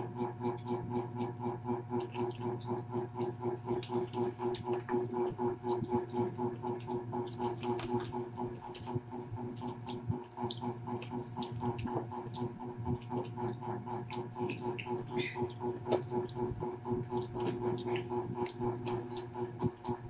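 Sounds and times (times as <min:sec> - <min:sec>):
chewing and crunching food: 0:00.0 - 0:20.0
pulsing background hum: 0:00.0 - 0:20.0.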